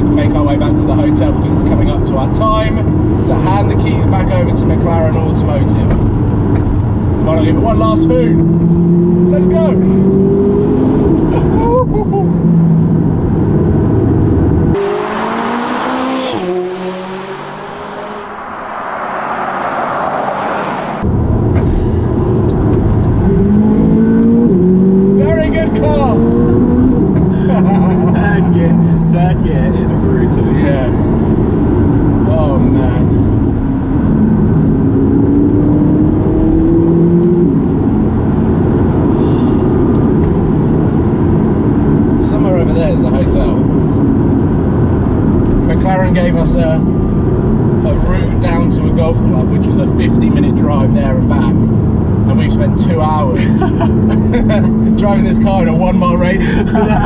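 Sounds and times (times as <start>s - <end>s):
road noise: 0.0s - 57.0s
sports car engine accelerating: 0.0s - 57.0s.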